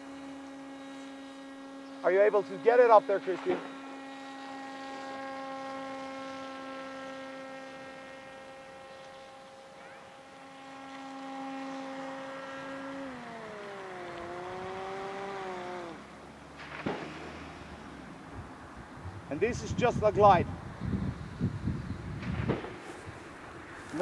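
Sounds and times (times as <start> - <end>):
model plane propeller droning: 0.0 - 24.0.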